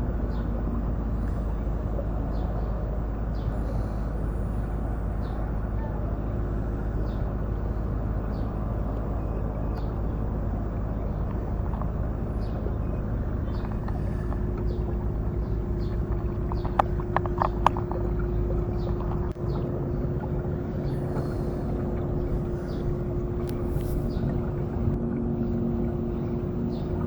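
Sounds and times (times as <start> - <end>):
faint steady hum: 0.0 - 27.0
wind and water rumble: 0.0 - 27.0.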